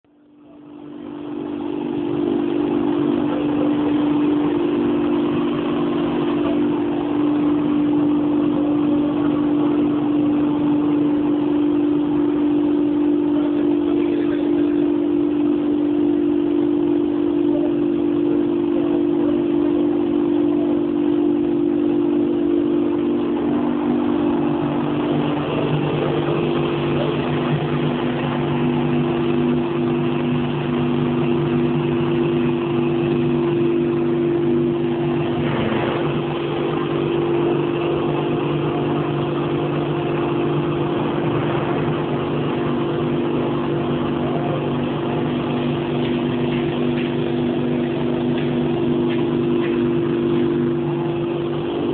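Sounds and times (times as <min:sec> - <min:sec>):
sifter machine humming: 0:00.0 - 0:51.9.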